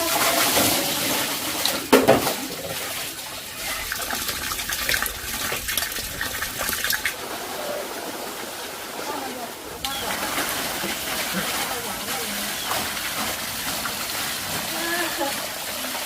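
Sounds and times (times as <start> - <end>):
water splashing and pouring: 0.0 - 16.0.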